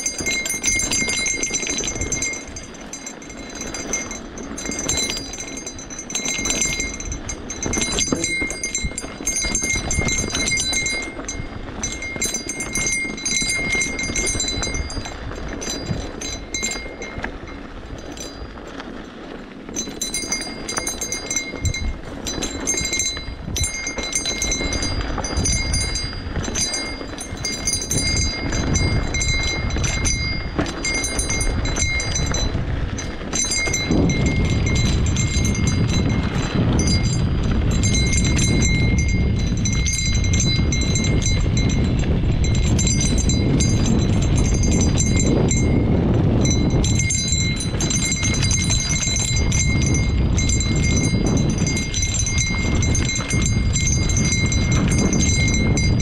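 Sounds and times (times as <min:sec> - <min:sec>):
rattling and crunching on dirt trail: 0:00.0 - 0:56.0
wind rumble on microphone: 0:00.0 - 0:56.0.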